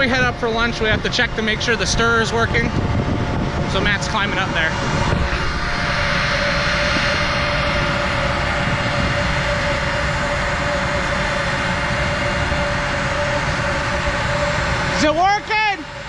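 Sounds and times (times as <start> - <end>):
grain bin machinery rushing and whining: 0.0 - 16.0.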